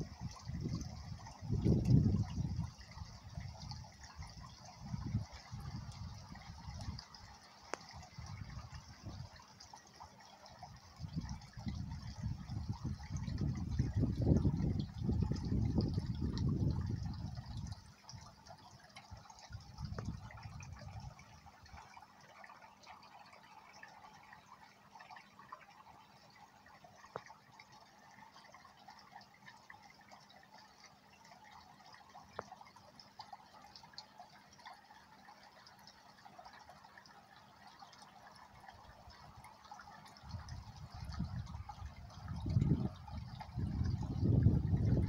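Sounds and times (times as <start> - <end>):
water trickling into pond: 0.0 - 45.0.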